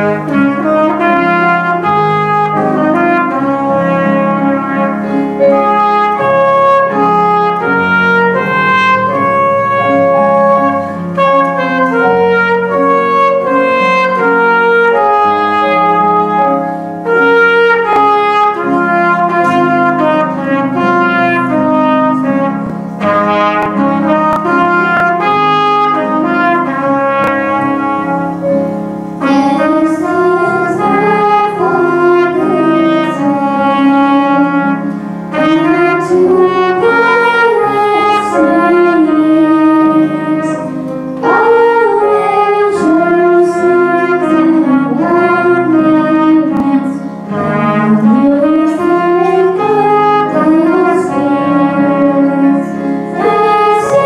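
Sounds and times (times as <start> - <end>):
girl singing into microphone: 0.0 - 28.5, 29.1 - 54.0
grand piano accompaniment: 0.0 - 54.0
trumpet playing hymn melody: 0.0 - 54.0.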